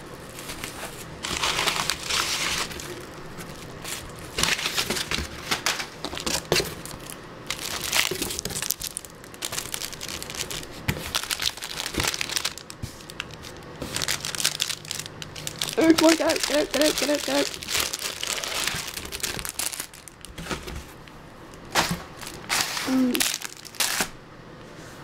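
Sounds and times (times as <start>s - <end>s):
paper and plastic crinkling: 0.0s - 24.2s.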